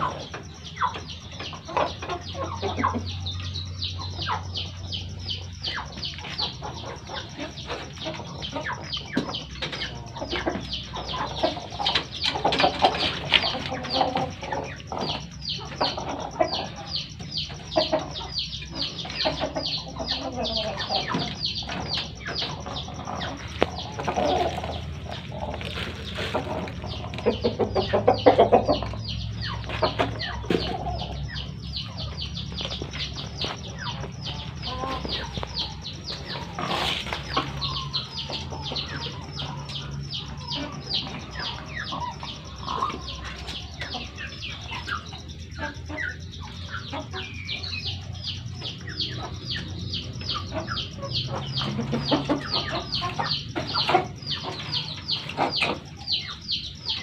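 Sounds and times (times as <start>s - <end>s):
chickens clucking: 0.0s - 57.0s
rapid high-pitched chirping: 0.0s - 57.0s.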